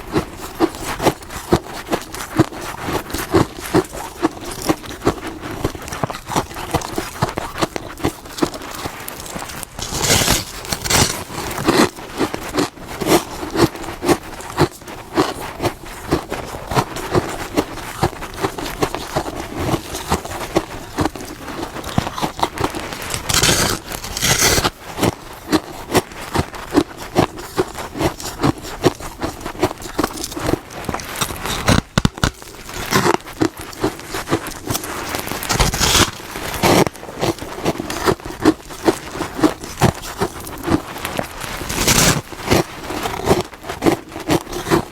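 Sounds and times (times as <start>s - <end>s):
person crunching frost: 0.0s - 44.9s.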